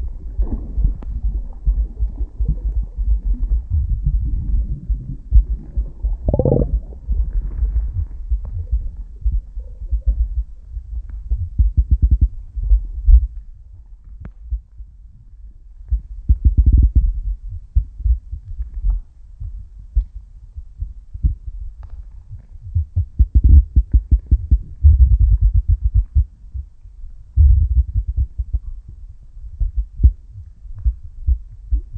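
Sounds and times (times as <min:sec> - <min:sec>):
low underwater rumble: 0:00.0 - 0:31.9.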